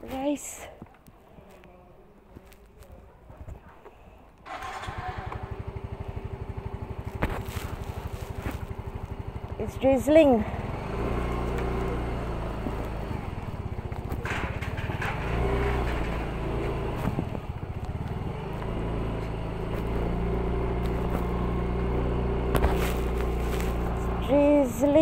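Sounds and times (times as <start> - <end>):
small motorbike engine: 4.5 - 25.0.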